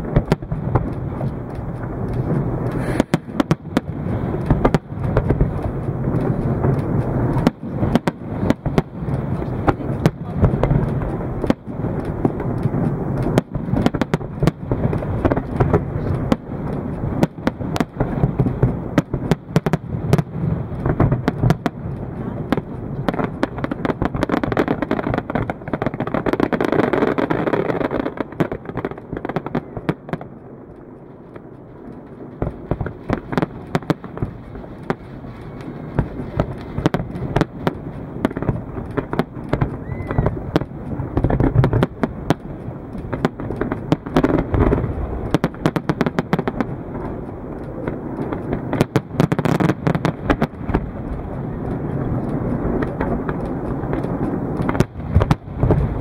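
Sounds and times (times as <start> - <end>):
firework shells bursting: 0.0 - 56.0
rumbling background: 0.0 - 56.0.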